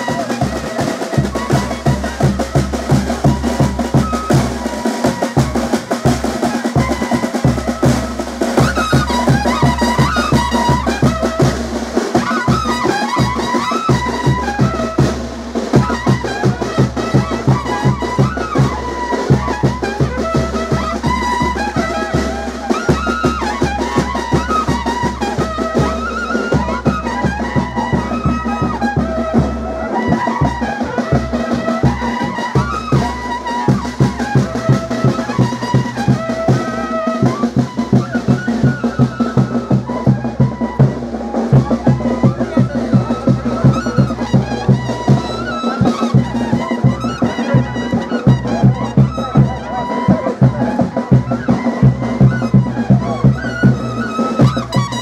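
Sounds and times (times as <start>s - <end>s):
brass melody: 0.0s - 55.0s
steady drum beat: 0.0s - 55.0s.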